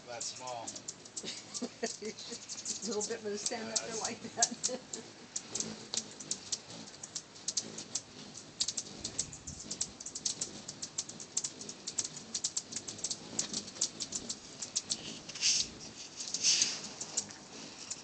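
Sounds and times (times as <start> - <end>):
hummingbirds chipping: 0.0 - 18.0.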